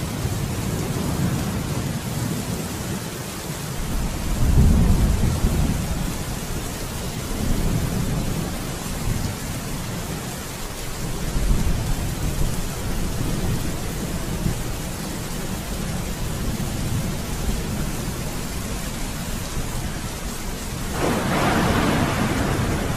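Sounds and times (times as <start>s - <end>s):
steady rain: 0.0s - 22.9s
thunder rumbling: 3.8s - 22.9s.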